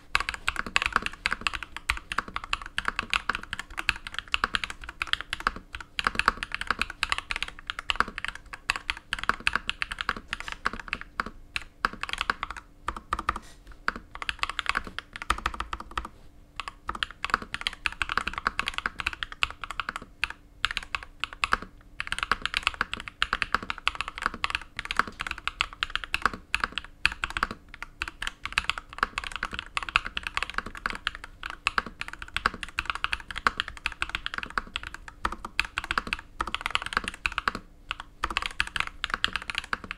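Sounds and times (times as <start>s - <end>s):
fast typing on mechanical keyboard: 0.1s - 39.9s.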